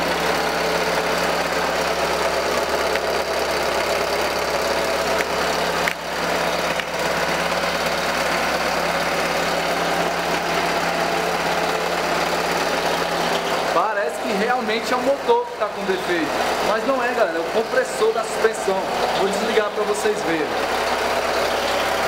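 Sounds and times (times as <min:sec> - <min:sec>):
air compressor running: 0:00.0 - 0:22.0
car engine idling: 0:00.0 - 0:22.0.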